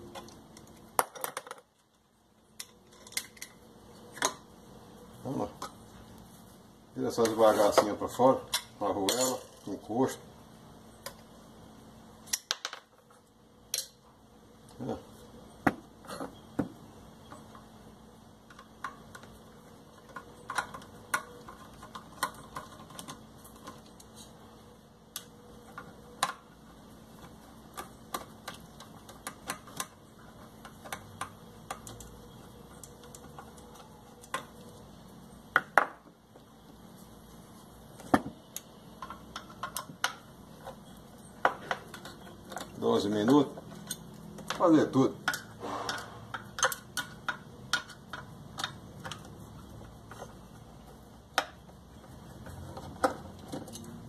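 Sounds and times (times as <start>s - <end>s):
tools clicking and clinking on metal: 0.0s - 4.5s, 7.1s - 10.2s, 12.2s - 14.8s, 18.4s - 36.6s, 37.9s - 54.0s.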